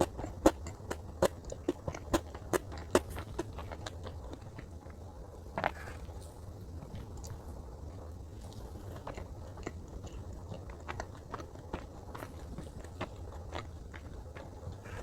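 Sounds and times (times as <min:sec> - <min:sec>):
person chewing cake: 0:00.0 - 0:15.0.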